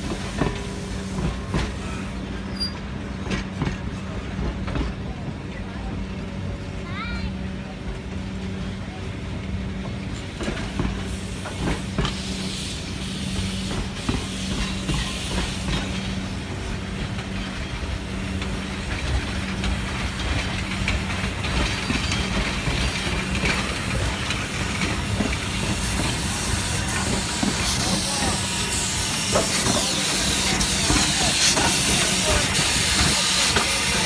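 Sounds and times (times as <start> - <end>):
steam locomotive hissing: 0.0 - 5.4, 8.5 - 34.0
train wheels clicking on rail joints: 0.0 - 5.4, 9.4 - 34.0.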